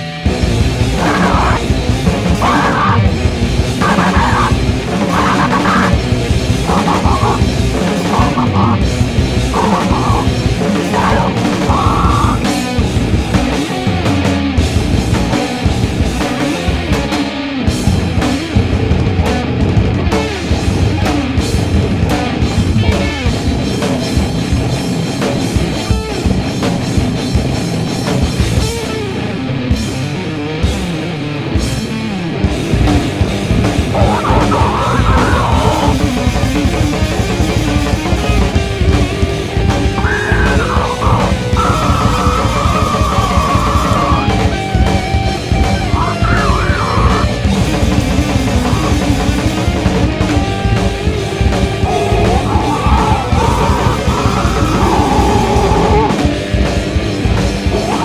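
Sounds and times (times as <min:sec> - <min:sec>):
drum kit playing: 0:00.0 - 0:28.9, 0:32.5 - 0:58.0
distorted electric guitars: 0:00.0 - 0:58.0.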